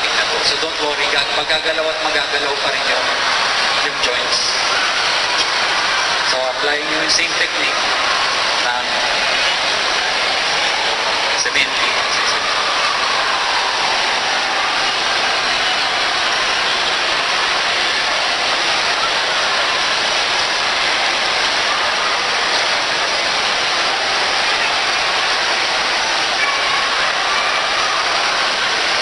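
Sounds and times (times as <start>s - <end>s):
crowd murmur: 0.0s - 29.0s
faint voices: 0.0s - 29.0s.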